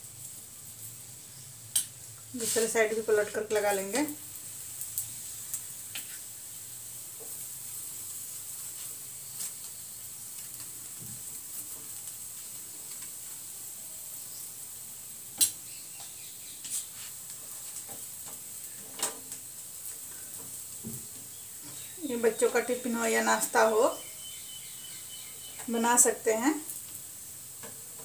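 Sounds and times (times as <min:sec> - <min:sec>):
flatbread sizzling on hot pan: 0:00.0 - 0:28.0.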